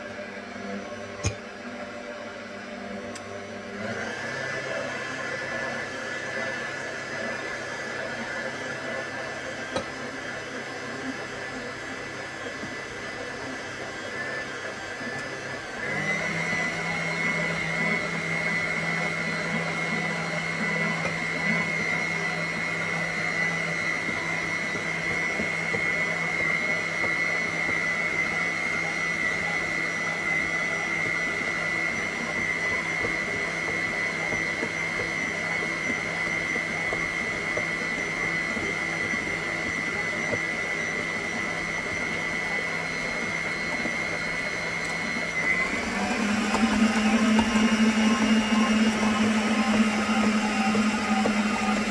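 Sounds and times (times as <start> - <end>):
stand mixer motor whining: 0.0 - 51.9.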